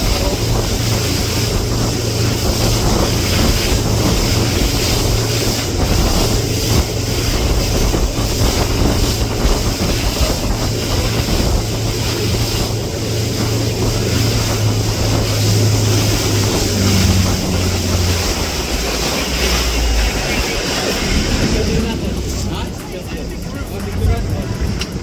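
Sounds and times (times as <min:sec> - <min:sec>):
speedboat engine humming: 0:00.0 - 0:25.0
water rushing past hull: 0:00.0 - 0:25.0
wind buffeting microphone: 0:00.0 - 0:25.0.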